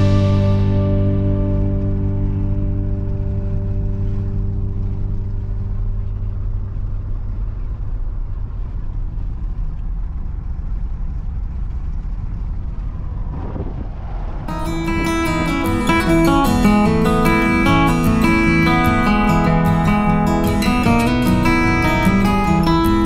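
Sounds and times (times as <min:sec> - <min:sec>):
car road and wind noise: 0:00.0 - 0:23.0.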